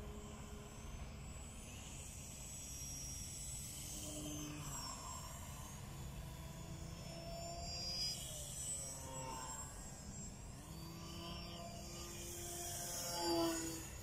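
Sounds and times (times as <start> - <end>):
model plane motor whining: 0.0 - 14.0.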